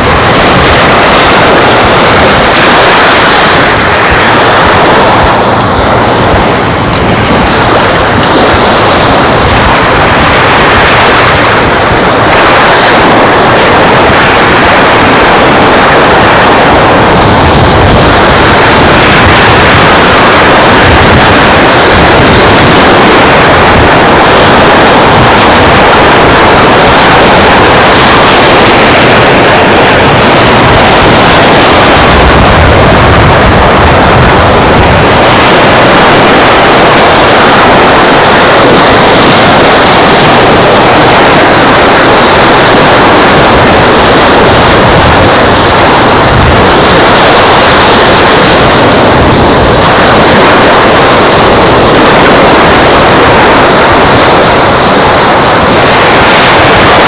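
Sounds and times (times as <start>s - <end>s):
surf breaking on beach: 0.0s - 57.0s
wind buffeting microphone: 0.0s - 57.0s.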